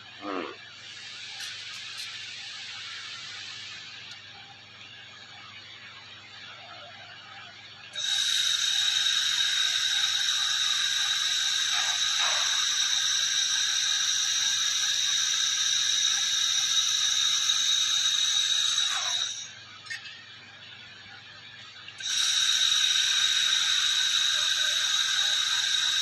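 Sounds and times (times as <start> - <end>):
laser head hissing with whine: 0.0 - 6.6, 8.0 - 21.2, 21.8 - 26.0.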